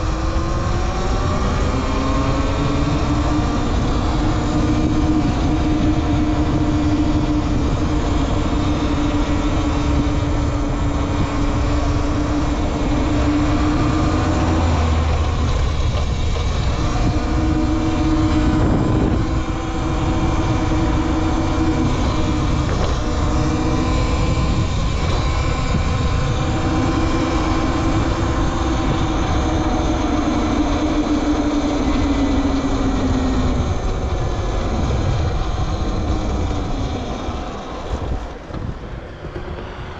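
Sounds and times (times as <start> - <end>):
electric motor whine: 0.0 - 39.9
wind rush and rumble: 0.0 - 39.9.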